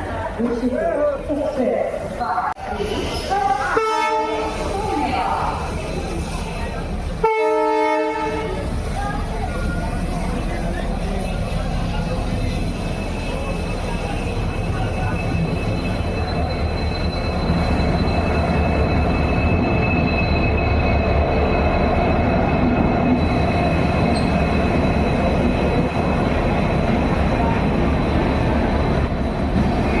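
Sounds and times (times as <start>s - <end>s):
locomotive engine hum: 3.8s - 30.0s.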